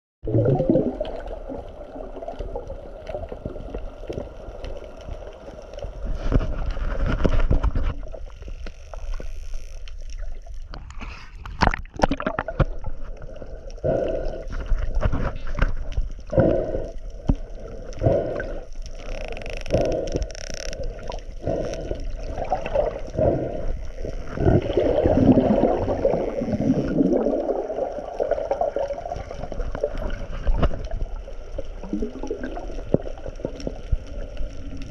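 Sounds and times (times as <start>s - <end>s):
water gurgling and sloshing: 0.3s - 34.9s.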